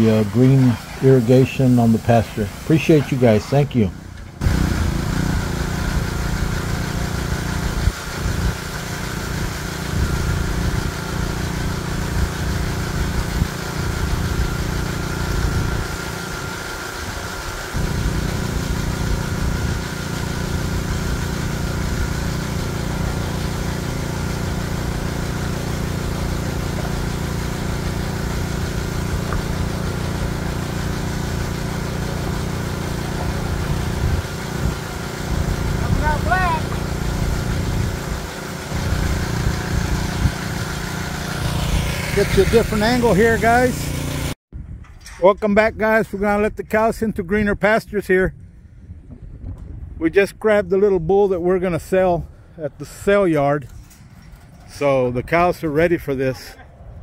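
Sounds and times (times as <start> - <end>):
engine running steadily: 0.0 - 45.2, 51.7 - 57.0.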